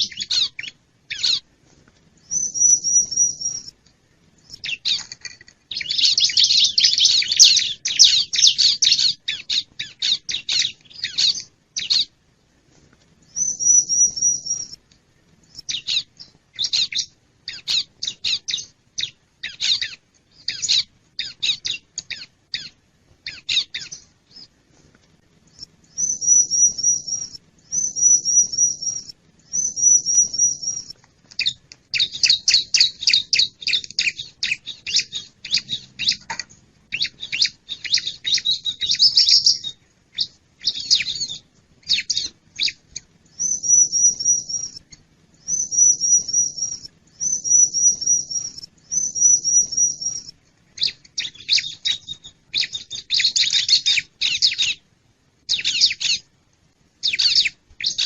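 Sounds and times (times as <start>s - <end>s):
bird chipping and trilling: 0.0s - 1.5s, 2.2s - 3.8s, 4.4s - 12.1s, 13.3s - 14.8s, 15.5s - 24.5s, 25.5s - 54.8s, 55.5s - 56.3s, 57.0s - 58.0s.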